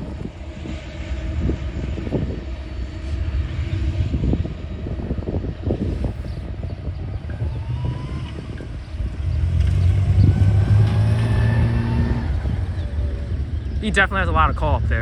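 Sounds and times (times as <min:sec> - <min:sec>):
freight train rumble: 0:00.0 - 0:15.0
wheels clanking on rails: 0:00.0 - 0:15.0.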